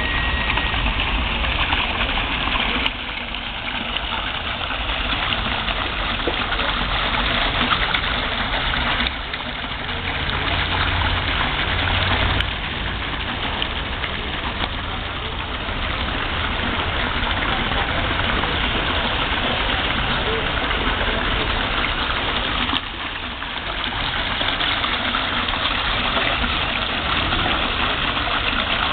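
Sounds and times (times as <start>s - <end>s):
fountain jet splashing into pond: 0.0s - 28.9s.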